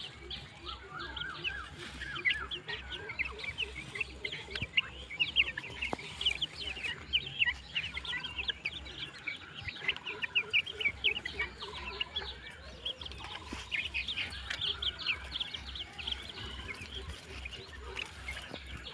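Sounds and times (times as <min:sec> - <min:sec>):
chicks peeping: 0:00.0 - 0:18.9.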